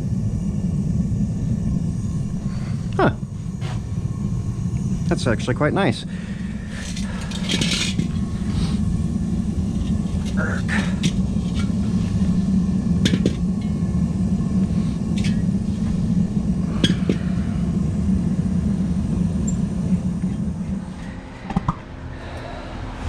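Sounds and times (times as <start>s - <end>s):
forge burner running: 0.0s - 23.0s.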